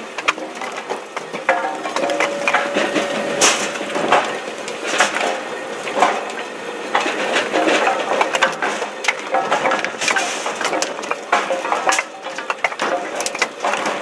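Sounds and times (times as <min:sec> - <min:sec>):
steady machine hum: 0:00.0 - 0:14.0
firewood pieces clattering: 0:00.2 - 0:14.0.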